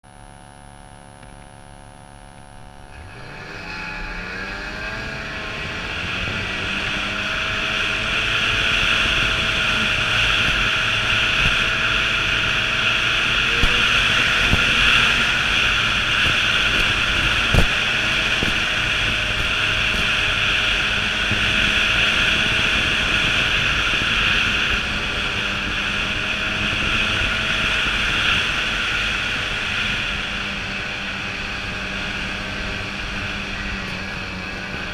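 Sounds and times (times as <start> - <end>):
snowmobile engine running: 0.1 - 34.9.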